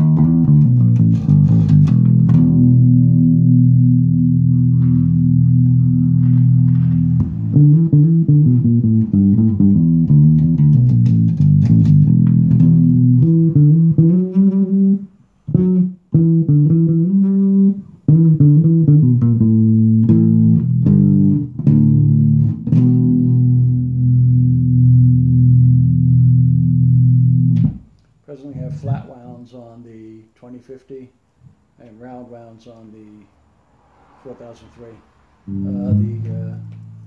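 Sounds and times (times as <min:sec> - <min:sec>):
electric bass plucked notes: 0:00.0 - 0:29.3, 0:35.5 - 0:37.0.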